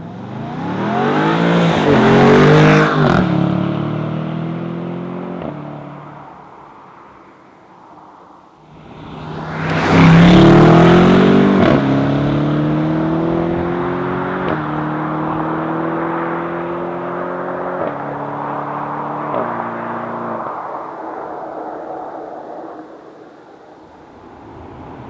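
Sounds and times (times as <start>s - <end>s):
car engine accelerating: 0.0s - 6.2s, 8.8s - 23.1s.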